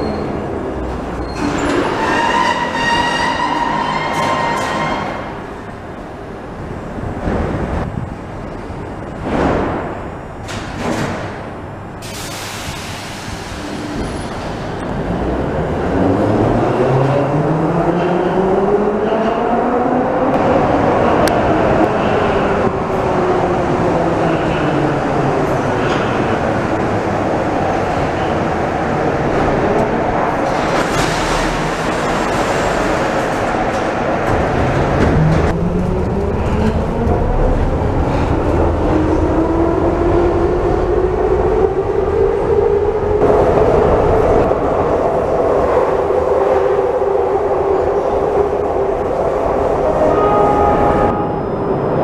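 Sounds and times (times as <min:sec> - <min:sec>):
wheel and rail rumble: 0:00.0 - 0:52.0.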